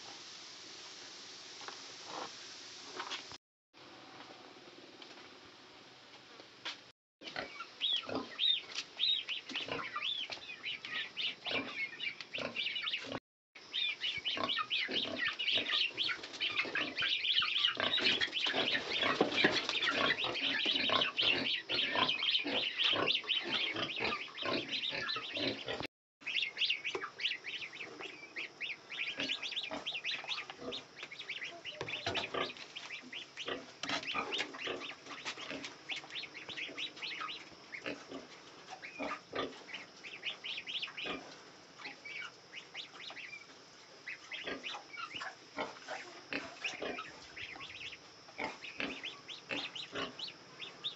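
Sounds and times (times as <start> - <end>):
goslings peeping: 7.3 - 50.9.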